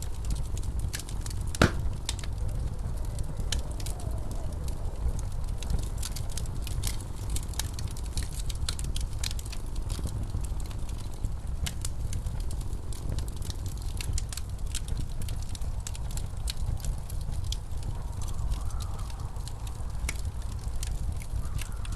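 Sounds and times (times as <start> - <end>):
low rumble of blizzard wind: 0.0 - 21.9
wood fire crackling and popping: 0.0 - 21.9.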